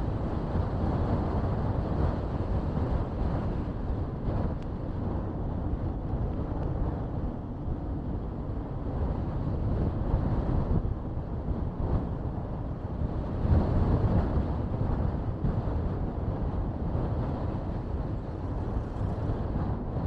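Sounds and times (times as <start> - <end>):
road and tyre noise: 0.0 - 20.0
wind rushing over microphone: 0.0 - 20.0.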